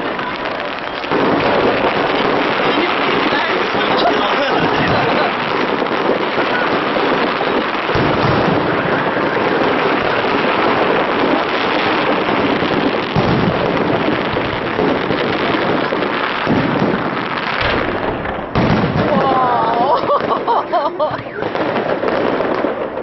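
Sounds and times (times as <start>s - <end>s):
fireworks crackling: 0.0s - 23.0s
loud firework bangs: 0.0s - 23.0s.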